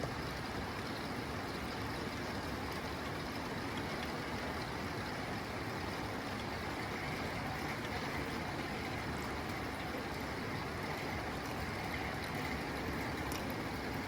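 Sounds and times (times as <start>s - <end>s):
rain on a tin roof: 0.0s - 14.0s.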